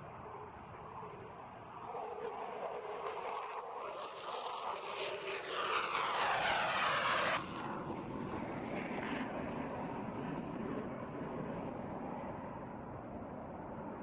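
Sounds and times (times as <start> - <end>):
plane passing close by: 0.0 - 14.0.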